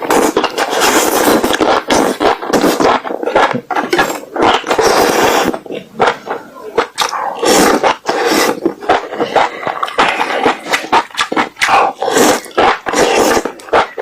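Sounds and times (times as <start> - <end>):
chewing and slurping: 0.0 - 14.0.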